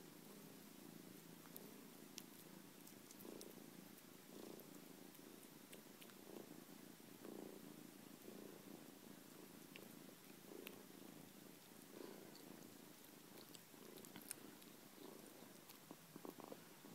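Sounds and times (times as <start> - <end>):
kitten purring: 0.0 - 16.9.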